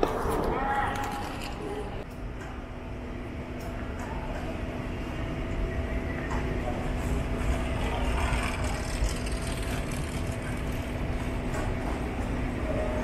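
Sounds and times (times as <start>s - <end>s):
baggage carousel rumble and hum: 0.0s - 13.0s.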